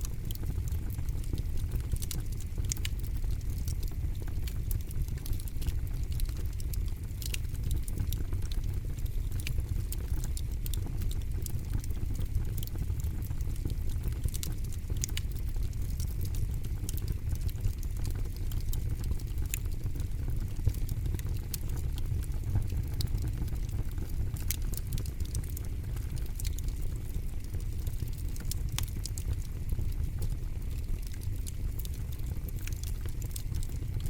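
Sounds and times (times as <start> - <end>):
campfire flame rumble: 0.0 - 34.0
wood crackling and popping: 0.0 - 34.0.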